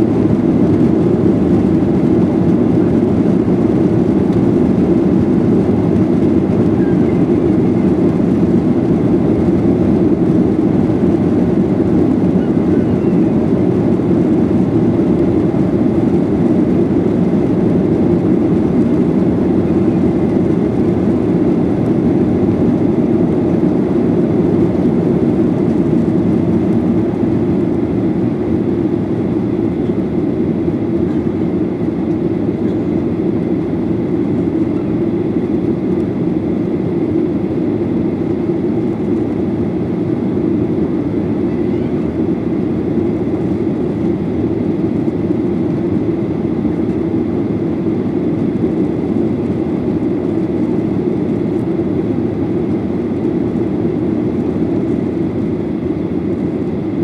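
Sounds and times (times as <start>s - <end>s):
jet engines low rush in cabin: 0.0s - 57.0s.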